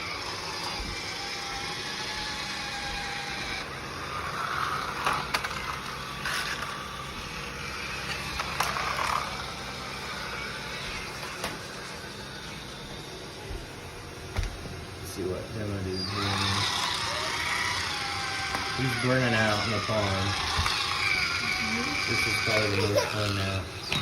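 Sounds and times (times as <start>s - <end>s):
toy car motor whirring: 0.0s - 12.5s, 15.9s - 24.0s.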